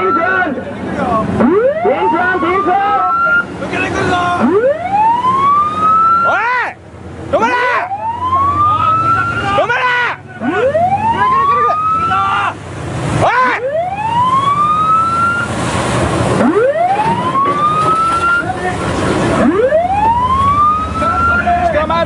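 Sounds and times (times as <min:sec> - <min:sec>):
ship's warning siren whooping: 0:00.0 - 0:00.6, 0:01.4 - 0:06.8, 0:07.4 - 0:12.6, 0:13.2 - 0:15.6, 0:16.4 - 0:21.9.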